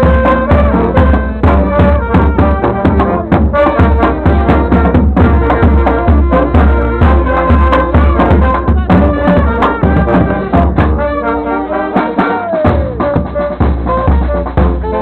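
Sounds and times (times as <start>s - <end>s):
street band with brass and drums: 0.0s - 15.0s.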